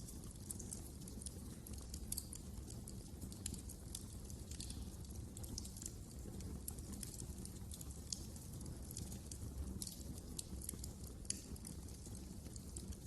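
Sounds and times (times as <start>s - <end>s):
fire pops and snaps: 0.0s - 13.0s
low rumble of flames: 0.0s - 13.0s.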